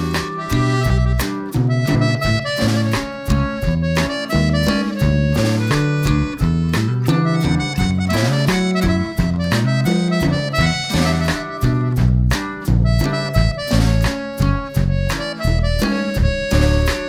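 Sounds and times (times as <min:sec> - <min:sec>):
harmonica-like melody: 0:00.0 - 0:17.0
plucked guitar notes: 0:00.0 - 0:17.0
steady music beat: 0:00.0 - 0:17.0.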